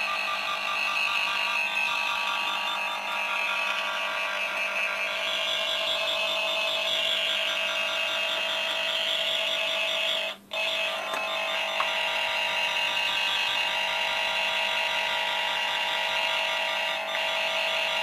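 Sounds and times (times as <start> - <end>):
tone-tracer probe electronic tone: 0.0 - 18.0.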